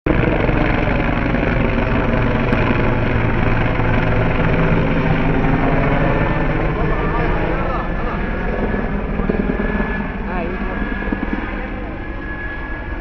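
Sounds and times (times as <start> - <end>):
helicopter drone: 0.1 - 13.0.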